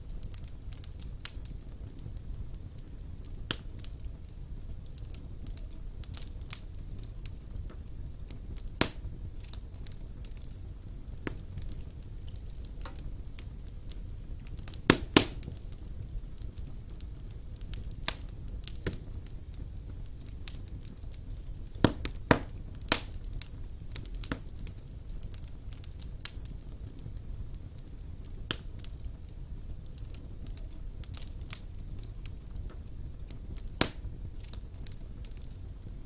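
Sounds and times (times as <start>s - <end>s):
fire crackling and popping: 0.0s - 36.0s
low rumble of flames: 0.0s - 36.0s.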